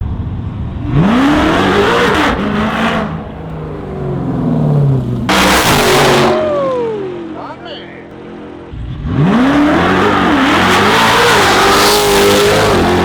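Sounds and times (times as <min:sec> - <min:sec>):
car engine revving hard: 0:00.8 - 0:07.3, 0:08.7 - 0:13.0.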